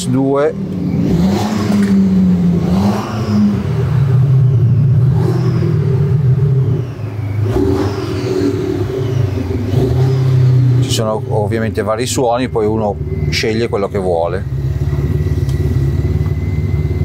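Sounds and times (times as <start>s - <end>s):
car idling: 0.0s - 17.0s
synthetic exhaust engine note: 0.0s - 17.0s.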